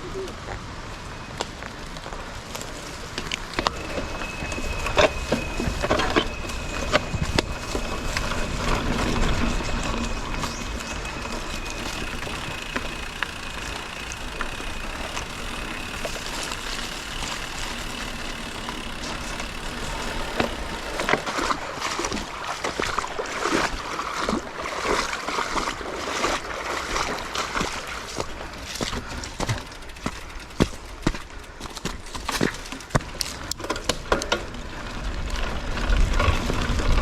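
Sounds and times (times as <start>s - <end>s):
bike tyre and air noise: 0.0s - 24.6s, 25.8s - 37.0s
bike rattling over rough ground: 0.0s - 37.0s.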